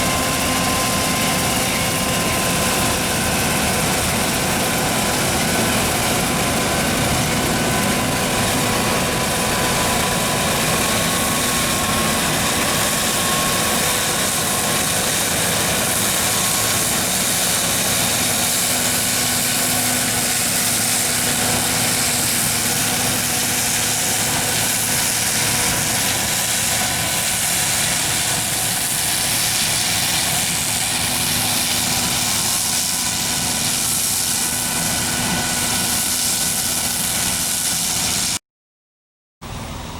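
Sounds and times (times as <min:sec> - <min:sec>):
combine harvester engine drone: 0:00.0 - 0:38.4, 0:39.4 - 0:39.9.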